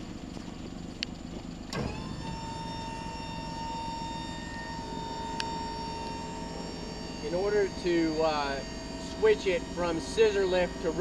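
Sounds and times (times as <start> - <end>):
hydraulic pump whine: 0.0 - 11.0
truck engine idling: 0.0 - 11.0.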